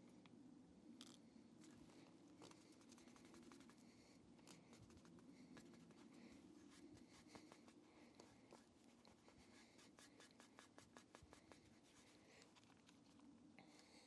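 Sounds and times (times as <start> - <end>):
low steady hum: 0.0 - 14.0
faint scratching of vinyl decal: 1.6 - 13.4.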